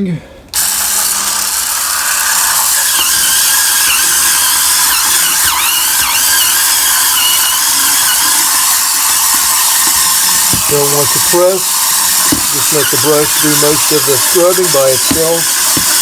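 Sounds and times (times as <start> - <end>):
spin scrubber whirring and squealing: 0.6 - 16.0.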